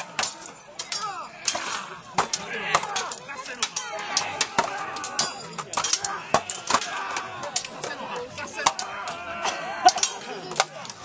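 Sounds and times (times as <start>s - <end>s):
hand weapons clashing: 0.0s - 11.0s
men shouting: 0.0s - 11.0s.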